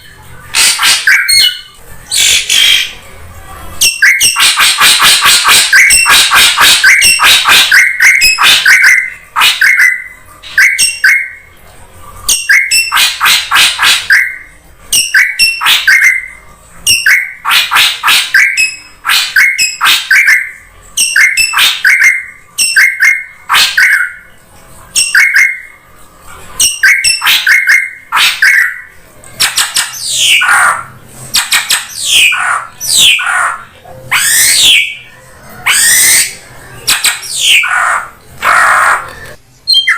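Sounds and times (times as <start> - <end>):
bird harsh chattering calls: 0.5 - 3.0, 3.8 - 11.4, 12.3 - 24.3, 26.6 - 35.0, 35.6 - 39.9.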